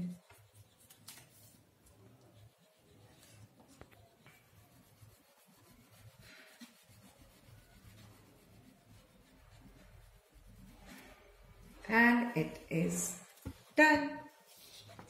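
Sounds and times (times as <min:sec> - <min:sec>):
crayon scratching on paper: 0:00.0 - 0:15.0.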